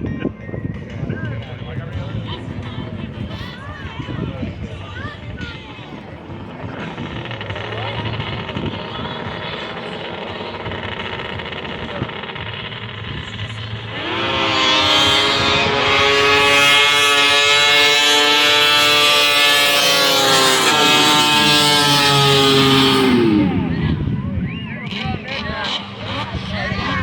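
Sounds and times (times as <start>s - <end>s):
snowmobile engine revving: 0.9s - 27.0s.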